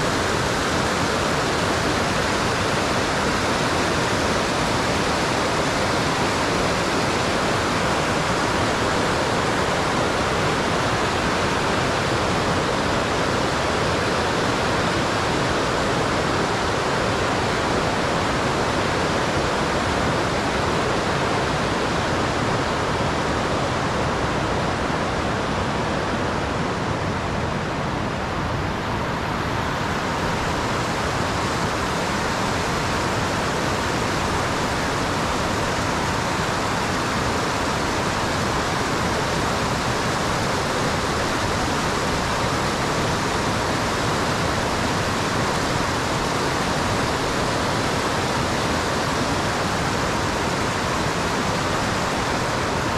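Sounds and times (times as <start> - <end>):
fast-flowing water rushing: 0.0 - 52.9.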